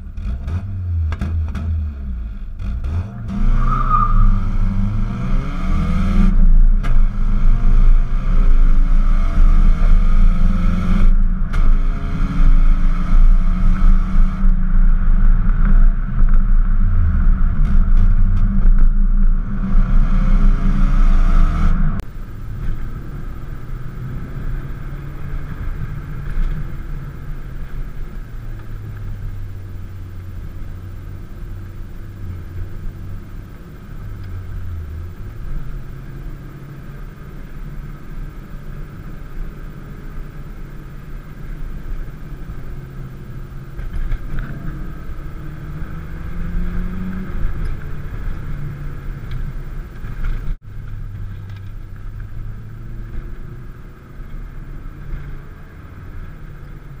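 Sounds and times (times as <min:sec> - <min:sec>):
car engine heard from cabin: 0:00.0 - 0:57.0
loud car exhaust accelerating: 0:00.0 - 0:57.0.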